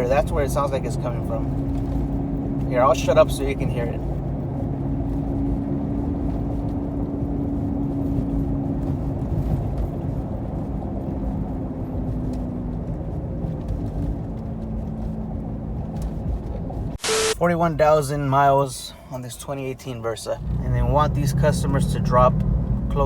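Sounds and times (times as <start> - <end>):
road and tyre noise: 0.0 - 23.0.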